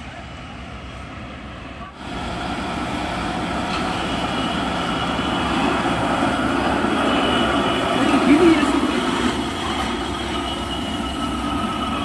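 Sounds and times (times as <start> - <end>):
factory machinery drone: 0.0 - 12.0.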